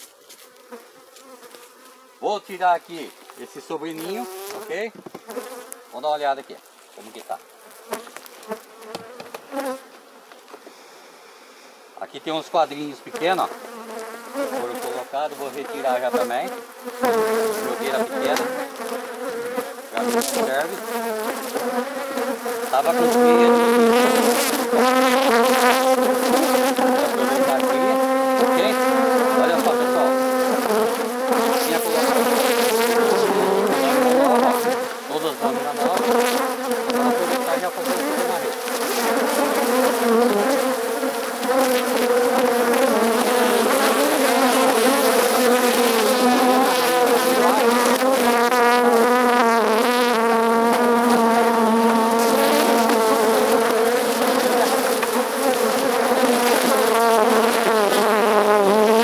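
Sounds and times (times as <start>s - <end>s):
single bee passing close: 0.0s - 2.2s, 3.2s - 5.9s, 7.6s - 9.9s, 12.8s - 59.0s
bees buzzing: 0.0s - 59.0s.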